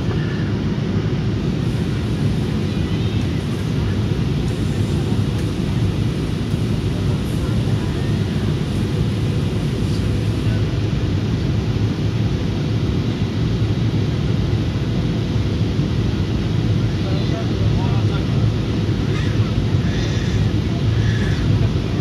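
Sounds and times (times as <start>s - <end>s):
jet airliner cabin rumble: 0.0s - 22.0s.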